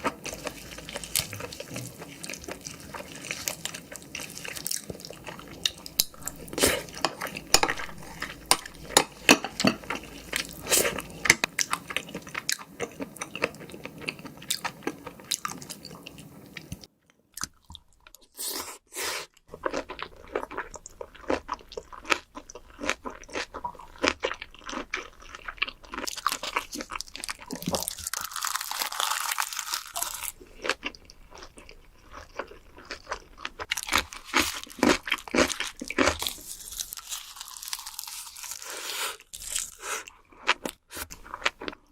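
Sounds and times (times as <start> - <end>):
wet chewing and crunching: 0.0 - 18.3, 19.4 - 41.9.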